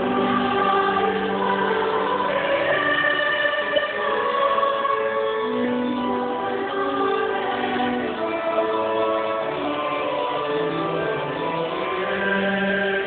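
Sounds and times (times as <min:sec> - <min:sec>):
choir singing in parts: 0:00.0 - 0:13.0.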